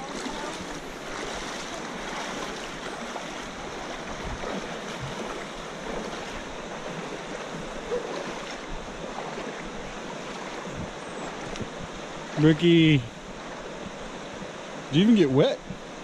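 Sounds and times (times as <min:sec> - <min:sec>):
feet wading through water: 0:00.0 - 0:14.9
river rushing over rocks: 0:00.0 - 0:16.0.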